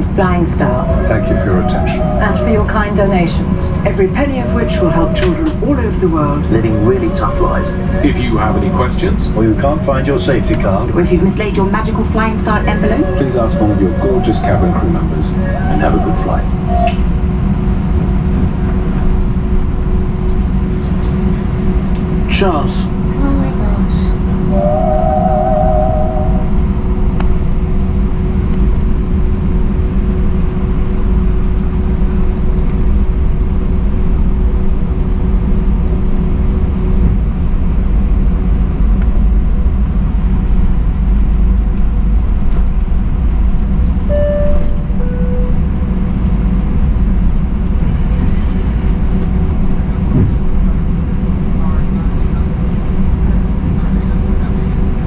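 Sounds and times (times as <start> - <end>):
airplane cabin engine rumble: 0.0 - 55.0
steady hum: 0.0 - 55.0.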